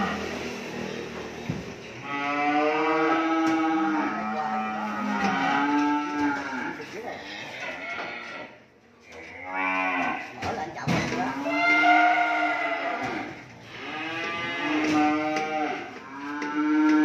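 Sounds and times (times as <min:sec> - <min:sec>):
cattle mooing: 0:00.0 - 0:00.6, 0:02.0 - 0:10.3, 0:11.4 - 0:17.0.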